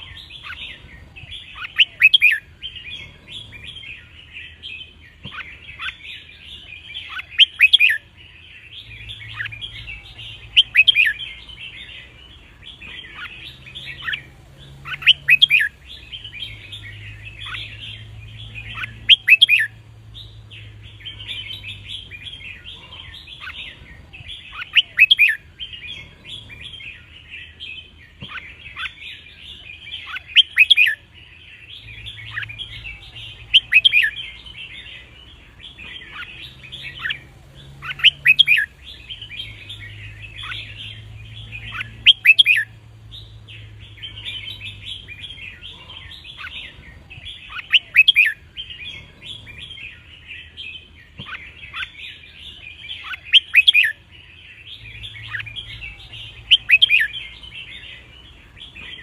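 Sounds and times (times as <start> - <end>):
bird song phrases: 0.0 - 59.0
birds chattering: 0.0 - 59.0.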